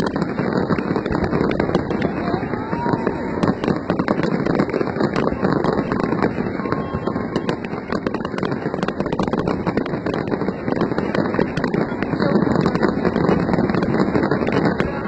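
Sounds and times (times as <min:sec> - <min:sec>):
dense fireworks rumble: 0:00.0 - 0:15.0
fireworks bangs and crackles: 0:00.0 - 0:15.0.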